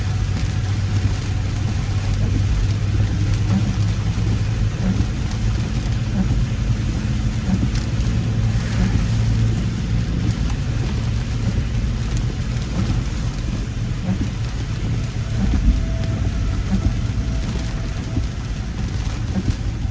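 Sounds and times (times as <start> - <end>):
car engine and tyres rumbling: 0.0 - 19.9
rain hissing on car and road: 0.0 - 19.9.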